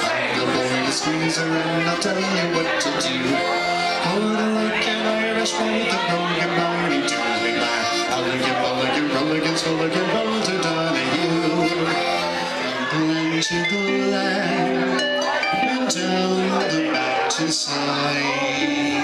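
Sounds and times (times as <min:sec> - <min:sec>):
solo accordion music: 0:00.1 - 0:19.0.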